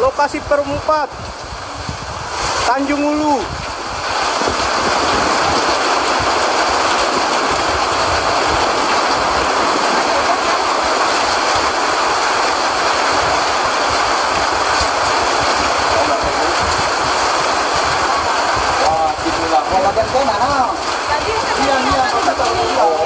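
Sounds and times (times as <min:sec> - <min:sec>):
strong wind rushing: 0:00.0 - 0:23.0.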